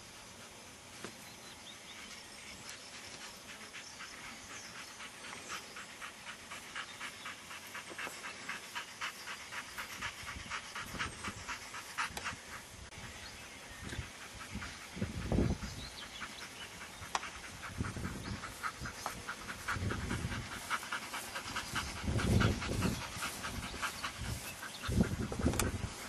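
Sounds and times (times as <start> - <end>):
dog panting fast: 2.9 - 13.0, 13.9 - 26.0.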